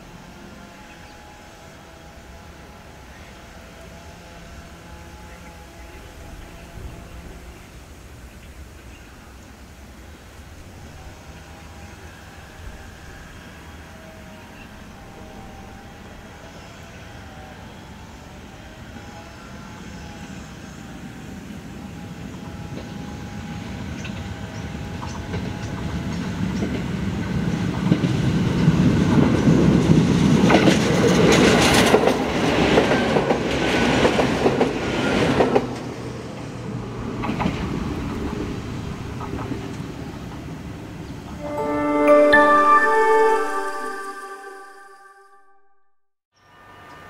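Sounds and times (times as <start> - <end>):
electric train passing: 0.0 - 45.4.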